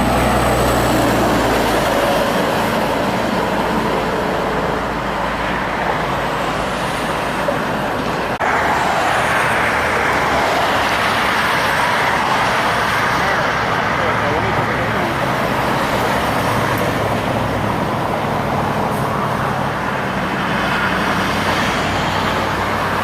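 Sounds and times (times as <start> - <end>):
low engine drone: 0.0 - 22.9
road traffic with trucks passing: 0.0 - 23.0.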